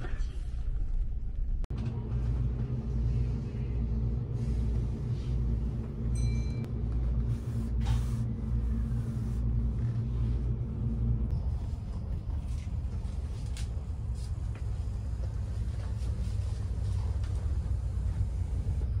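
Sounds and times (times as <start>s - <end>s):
train car rumble and hum: 0.0s - 19.0s.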